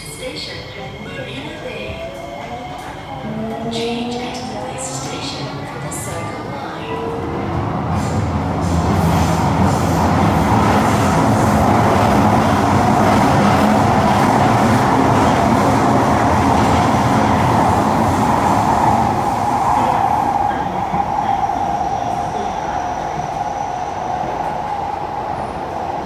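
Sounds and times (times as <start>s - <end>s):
metro train running in tunnel: 0.0s - 26.0s.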